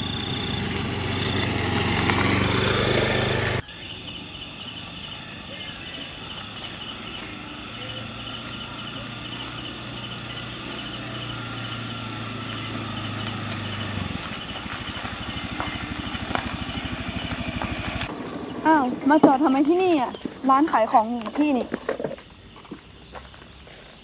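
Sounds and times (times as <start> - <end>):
motor scooter engine: 0.0 - 22.9
insects chirping: 0.0 - 24.0.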